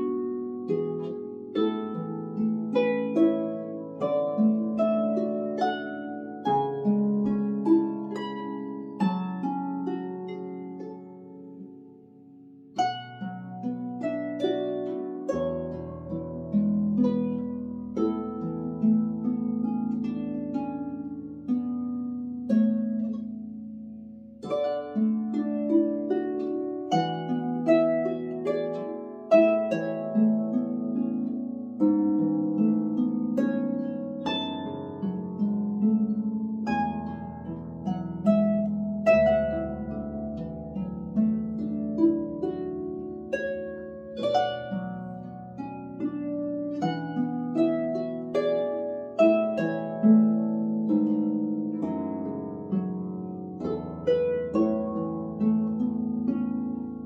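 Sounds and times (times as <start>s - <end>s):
harp playing slow tune: 0.0s - 57.0s.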